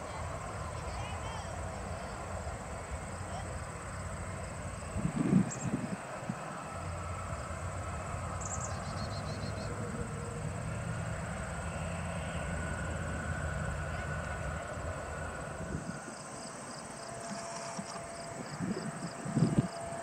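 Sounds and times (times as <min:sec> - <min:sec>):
insects chirping: 0:00.0 - 0:20.0
jet engine rumble with whine: 0:00.0 - 0:20.0.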